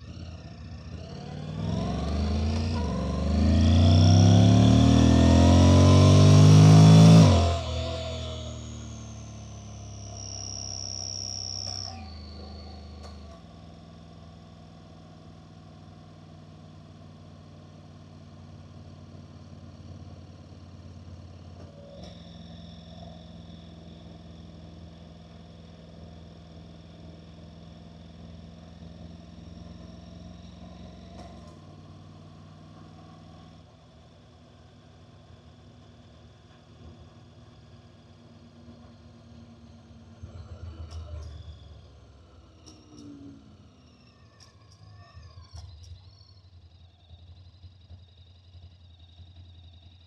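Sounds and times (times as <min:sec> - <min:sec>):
motorcycle engine running: 0:00.0 - 0:40.3, 0:45.4 - 0:50.0.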